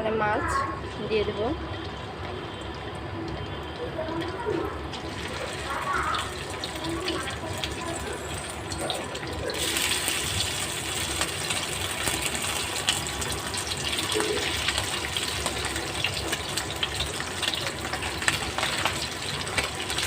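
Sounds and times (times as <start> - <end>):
fish frying in hot oil: 0.6 - 20.0.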